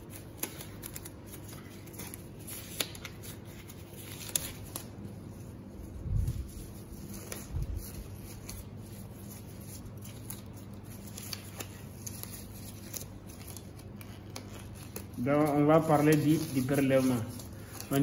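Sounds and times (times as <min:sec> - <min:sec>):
examination gloves rustling: 0:00.0 - 0:18.0
steady low hum: 0:00.0 - 0:18.0.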